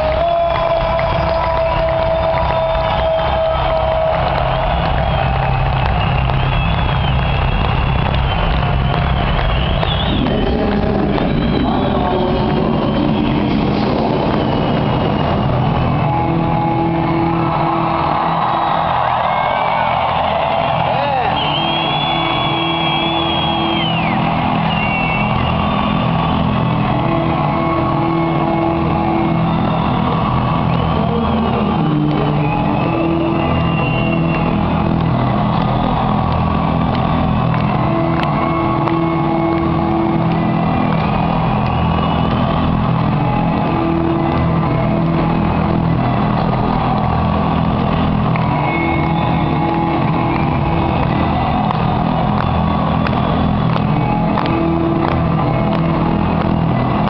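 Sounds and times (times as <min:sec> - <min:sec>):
crowd noise: 0:00.0 - 0:57.0
muddied music over sound system: 0:00.0 - 0:57.0.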